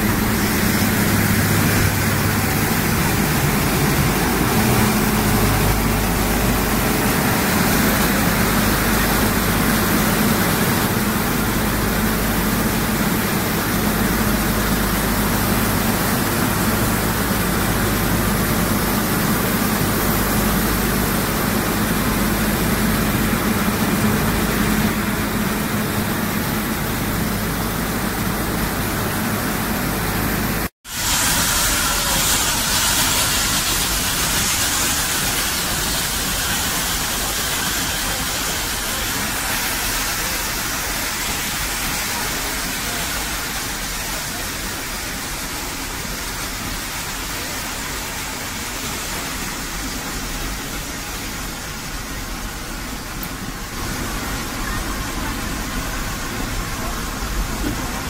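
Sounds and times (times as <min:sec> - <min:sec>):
moving train rushing noise: 0:00.0 - 0:58.0
steam locomotive hiss and hum: 0:00.0 - 0:58.0.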